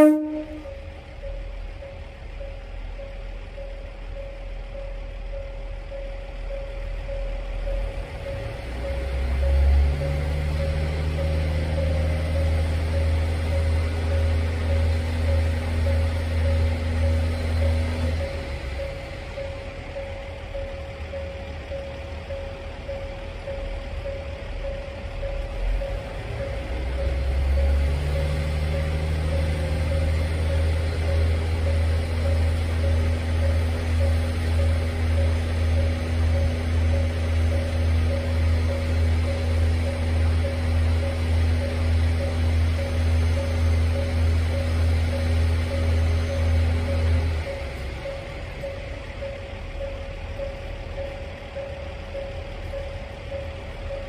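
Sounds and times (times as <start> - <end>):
higher hum: 0.0 - 54.0
diesel engine idling: 0.1 - 54.0.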